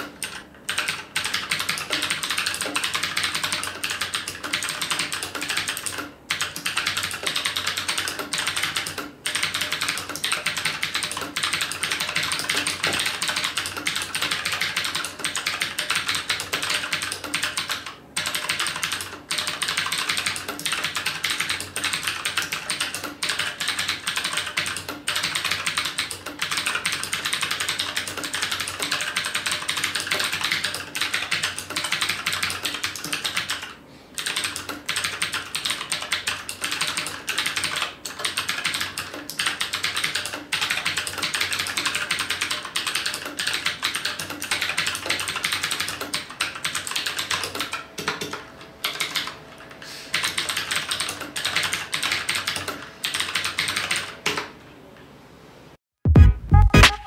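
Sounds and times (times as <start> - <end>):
mechanical keyboard typing: 0.0 - 54.5.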